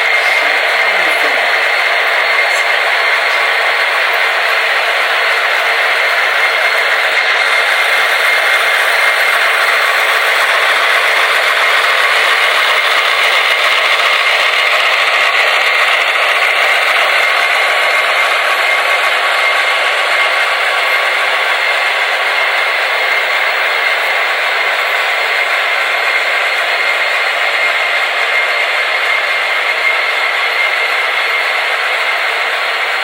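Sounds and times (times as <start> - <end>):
model locomotive engine sounds: 0.0 - 33.0
whir of small motors: 0.0 - 33.0.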